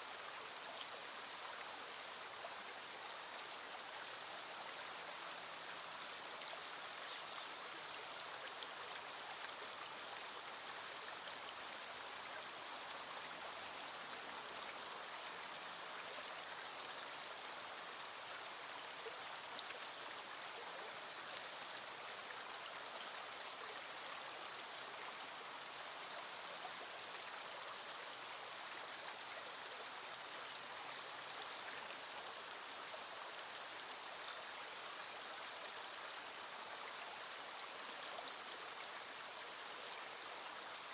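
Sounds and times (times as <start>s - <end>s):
stream flowing over stones: 0.0s - 40.9s.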